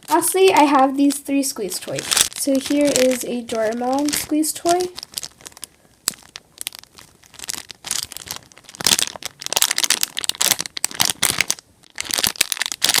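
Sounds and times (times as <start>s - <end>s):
plastic crinkling and crackling: 0.0s - 13.0s.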